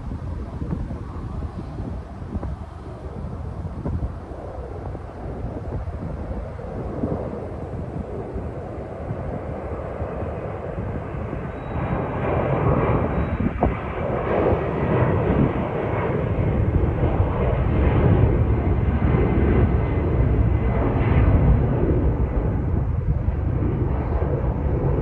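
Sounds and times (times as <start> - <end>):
jet engines at takeoff: 0.0 - 25.0.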